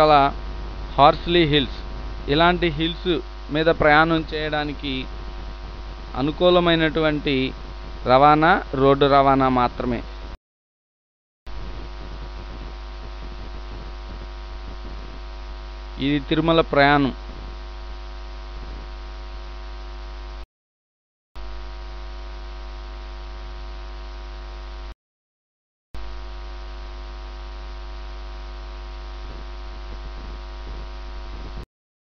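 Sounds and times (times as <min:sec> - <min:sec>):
electrical mains hum: 0:00.0 - 0:10.4, 0:11.5 - 0:20.4, 0:21.4 - 0:24.9, 0:26.0 - 0:31.6.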